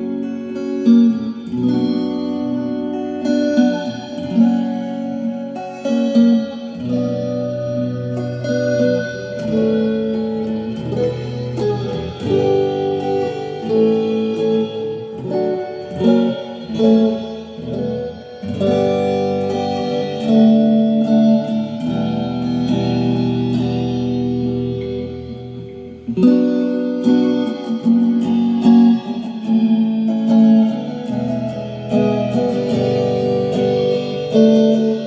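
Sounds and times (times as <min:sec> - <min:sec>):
guitar playing: 0:00.0 - 0:35.0.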